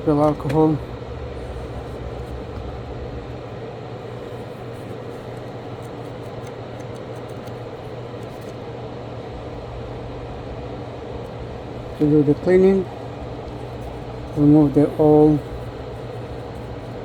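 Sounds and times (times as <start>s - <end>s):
machine hum with airy hiss: 0.0s - 17.0s.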